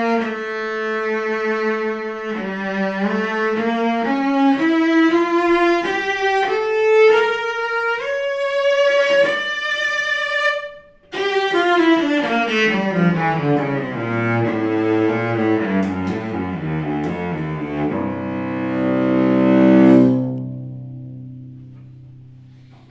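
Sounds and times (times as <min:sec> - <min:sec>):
solo bowed cello: 0:00.0 - 0:22.9.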